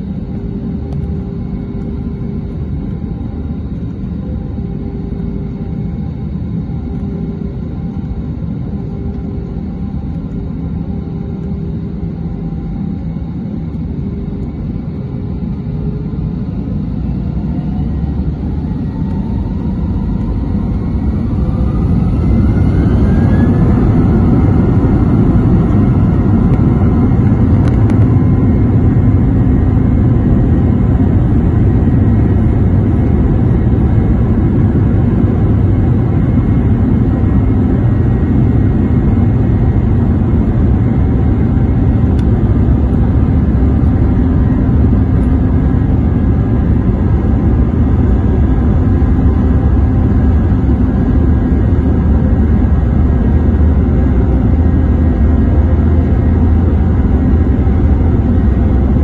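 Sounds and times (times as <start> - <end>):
jet engines rumbling: 0.0 - 59.0
rising jet engine whine: 0.0 - 59.0.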